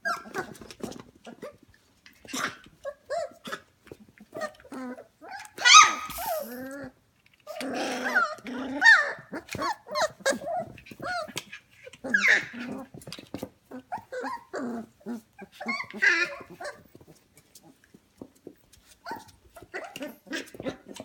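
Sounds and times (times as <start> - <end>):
puppies yipping and whining: 0.0 - 1.6, 2.2 - 17.8, 18.8 - 21.0.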